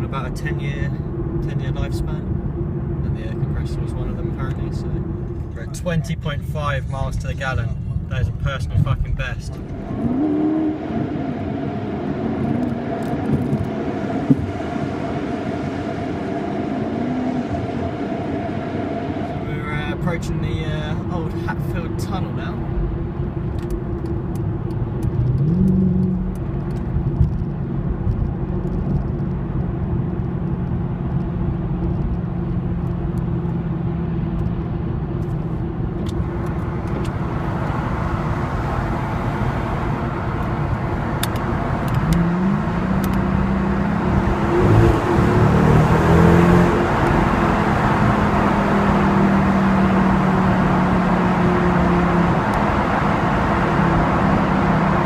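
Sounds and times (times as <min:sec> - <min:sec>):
car engine running: 0:00.0 - 0:55.0
road noise: 0:00.0 - 0:55.0.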